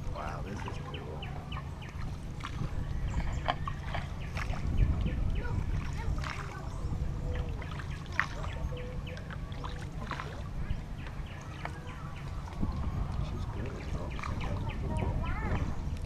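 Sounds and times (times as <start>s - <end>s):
paddle splashing water: 0.0s - 15.7s
wind on microphone: 0.0s - 16.0s.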